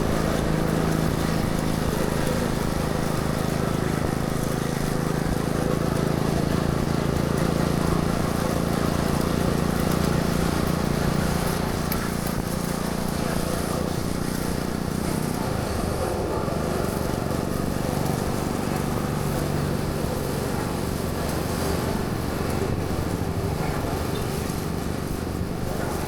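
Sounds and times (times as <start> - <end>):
road and traffic noise: 0.0 - 26.0
vehicle engine running: 0.0 - 26.0.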